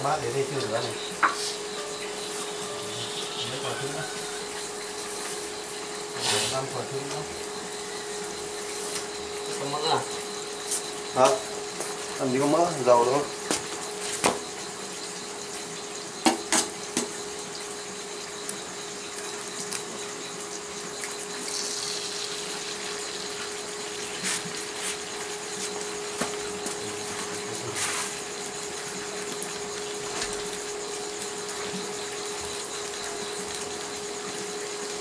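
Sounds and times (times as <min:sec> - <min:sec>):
steady hum: 0:00.0 - 0:33.3
steady hiss: 0:00.0 - 0:35.0.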